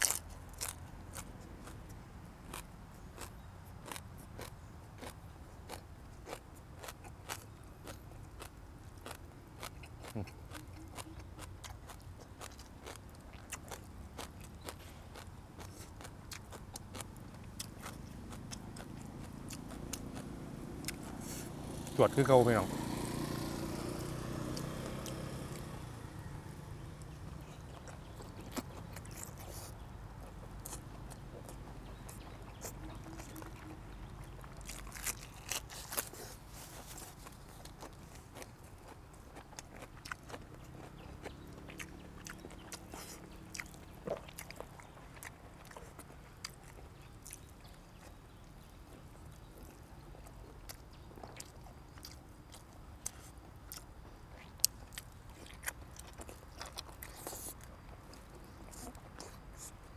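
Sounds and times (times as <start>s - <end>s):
man chewing crunchy food: 0.0s - 22.4s, 23.8s - 59.9s.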